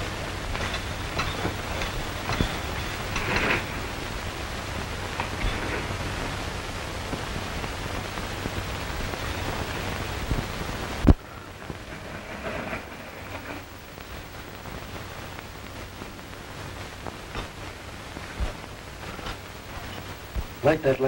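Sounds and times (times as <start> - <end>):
old film soundtrack hiss: 0.0 - 21.0.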